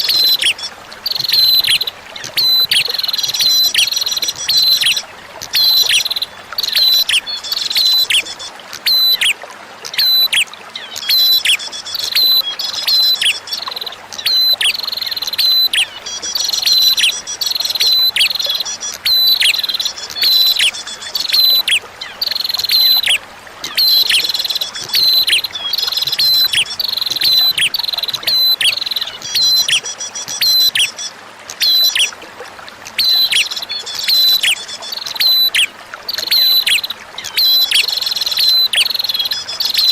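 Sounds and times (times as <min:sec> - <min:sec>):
flowing water trickling: 0:00.0 - 0:39.9.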